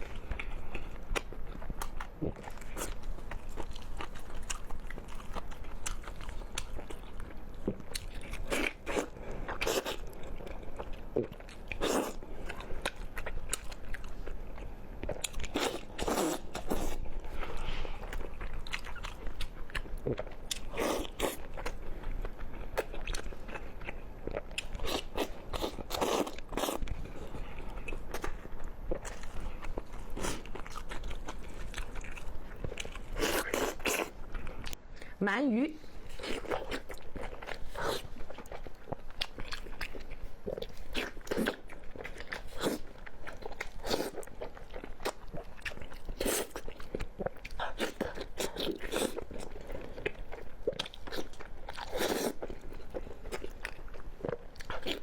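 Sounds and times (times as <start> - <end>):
person crunching and chewing: 0.0 - 34.8, 36.0 - 55.0.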